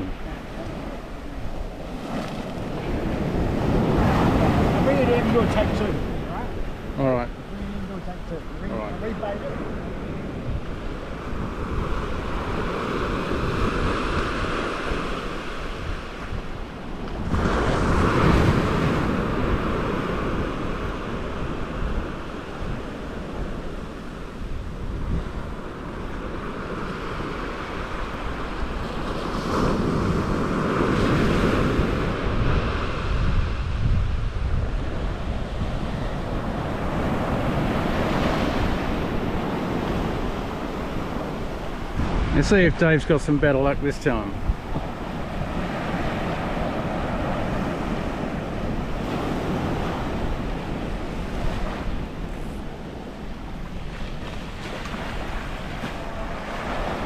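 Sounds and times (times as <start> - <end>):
surf washing up a beach: 0.0 - 57.0
wind buffeting microphone: 0.0 - 57.0.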